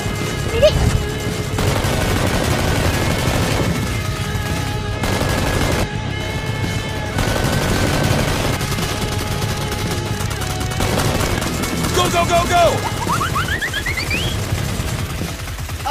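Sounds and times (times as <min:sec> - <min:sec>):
automatic gunfire sound effects: 0:00.0 - 0:15.9
background music: 0:00.0 - 0:15.9.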